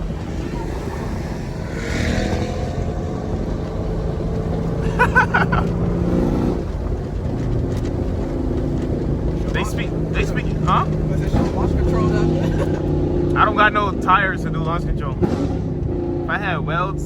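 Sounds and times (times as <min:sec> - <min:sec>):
car engine droning at low speed: 0:00.0 - 0:17.0.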